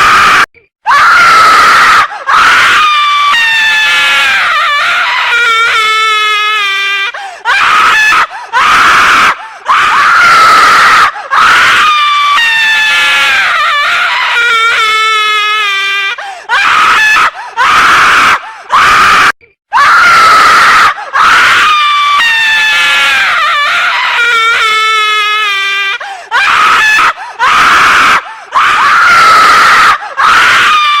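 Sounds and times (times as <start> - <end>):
woman screaming: 0.0 - 31.0.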